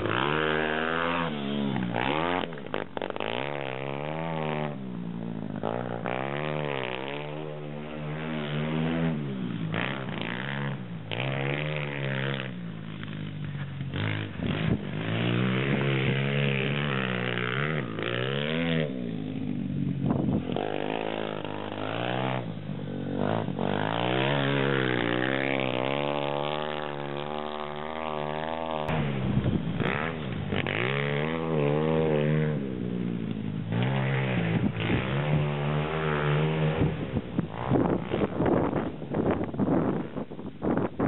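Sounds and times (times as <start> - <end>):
motorbike engine revving: 0.0 - 41.0.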